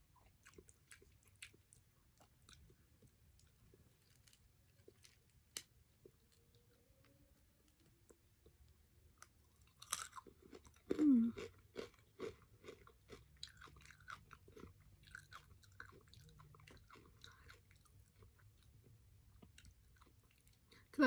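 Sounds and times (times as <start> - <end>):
person crunching fried chicken: 0.3 - 6.5, 9.2 - 20.6.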